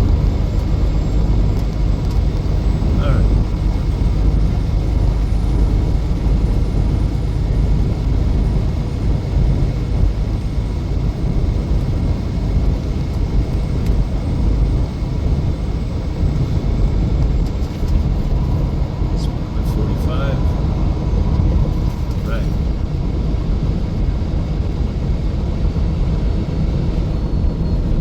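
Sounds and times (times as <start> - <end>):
road and engine rumble in cabin: 0.0 - 28.0.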